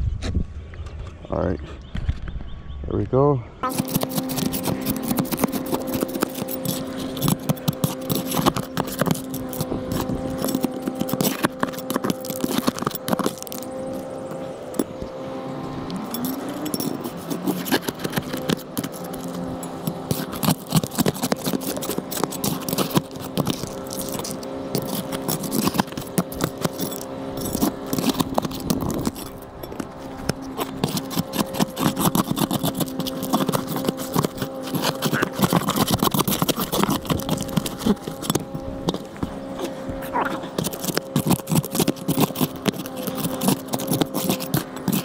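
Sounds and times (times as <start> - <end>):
steady low hum: 0.0 - 45.0
roofing scraping and clinking: 3.6 - 45.0.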